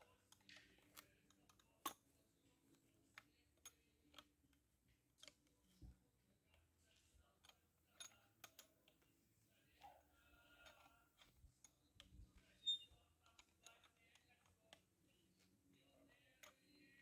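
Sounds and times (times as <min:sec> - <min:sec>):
faint clicks and taps: 0:00.0 - 0:16.8.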